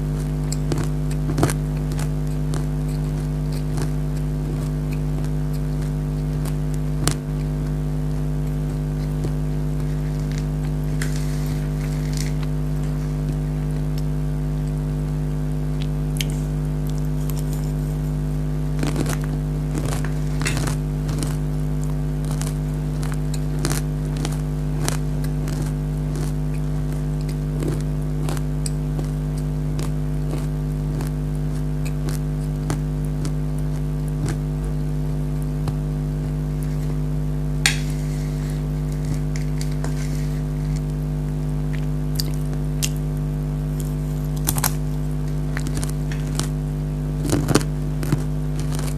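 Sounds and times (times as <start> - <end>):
crunchy snack being chewed: 0.0 - 14.9, 15.6 - 48.9
loud steady hum: 0.0 - 48.9.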